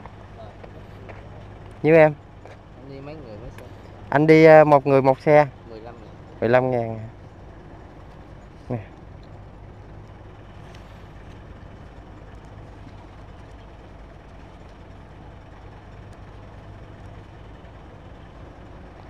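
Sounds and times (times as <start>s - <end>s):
ferry engine droning: 0.0s - 19.0s.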